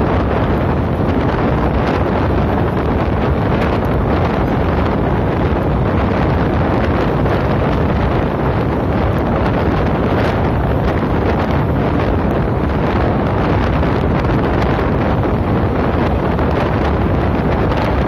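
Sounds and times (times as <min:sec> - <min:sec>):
train rumbling on track: 0:00.0 - 0:18.0
wind buffeting microphone: 0:00.0 - 0:18.0.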